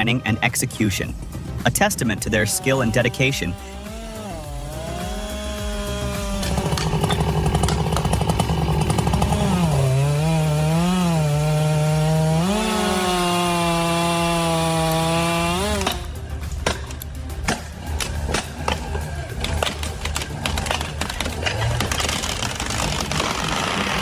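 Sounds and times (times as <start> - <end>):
chainsaw cutting tree: 2.6 - 24.0.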